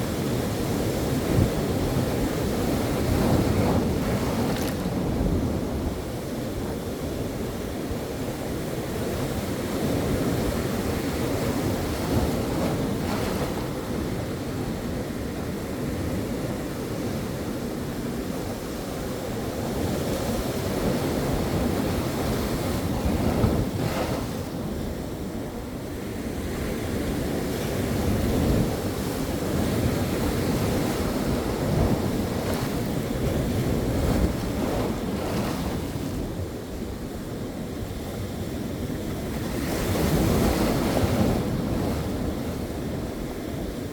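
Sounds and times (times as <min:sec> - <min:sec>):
waves washing ashore: 0:00.0 - 0:43.9
wind rumbling on microphone: 0:00.0 - 0:43.9.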